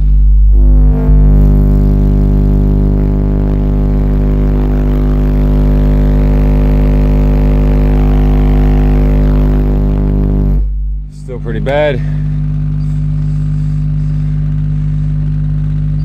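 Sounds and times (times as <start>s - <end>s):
subwoofer low test tone drone: 0.0s - 16.0s.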